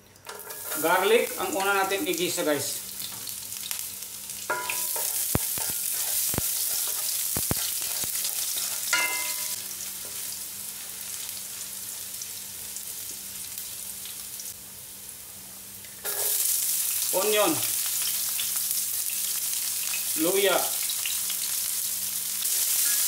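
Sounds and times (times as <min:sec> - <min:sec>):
garlic sizzling in oil: 0:00.1 - 0:23.0.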